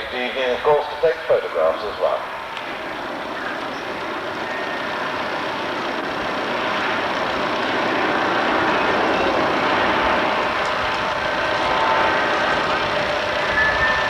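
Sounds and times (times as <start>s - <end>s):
airship engine drone: 0.0s - 14.0s.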